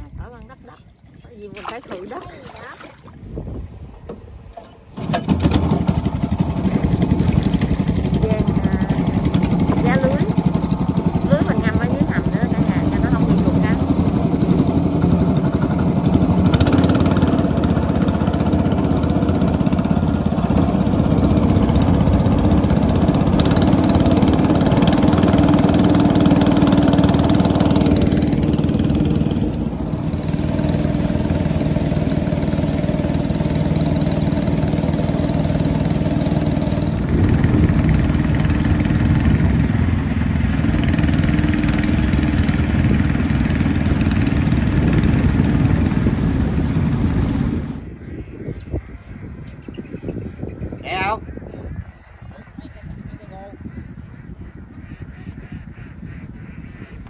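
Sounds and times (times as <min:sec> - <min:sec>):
small boat engine running: 0:00.0 - 0:48.0.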